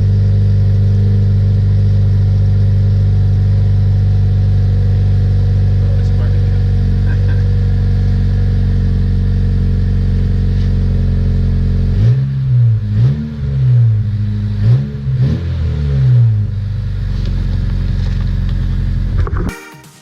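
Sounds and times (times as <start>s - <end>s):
car engine idling and revving: 0.0s - 19.5s.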